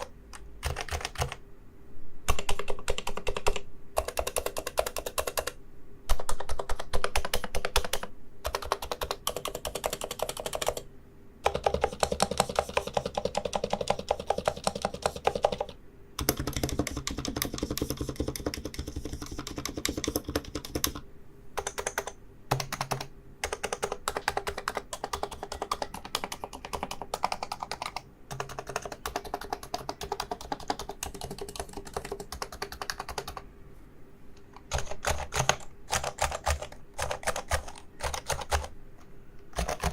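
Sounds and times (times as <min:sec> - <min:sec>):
keyboard typing: 0:00.0 - 0:01.4, 0:02.2 - 0:33.5, 0:34.4 - 0:39.9.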